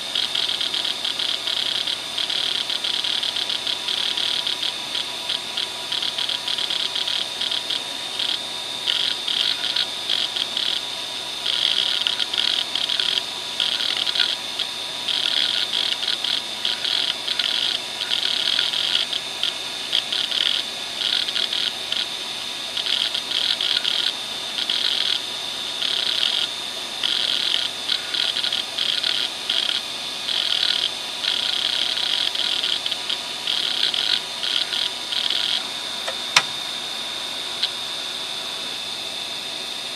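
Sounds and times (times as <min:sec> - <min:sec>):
hard drive head chattering: 0:00.0 - 0:36.7, 0:37.5 - 0:37.8
hard drive spinning whine: 0:00.0 - 0:39.9.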